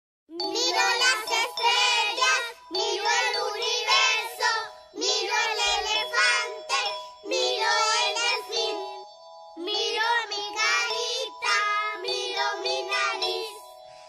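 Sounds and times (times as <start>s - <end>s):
child-like singing: 0.3s - 13.7s.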